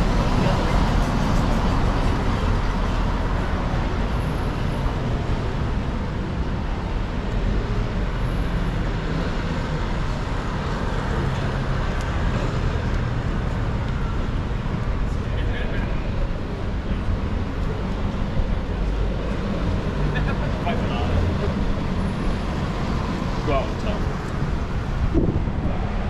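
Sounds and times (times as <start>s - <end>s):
city street traffic: 0.0s - 26.0s.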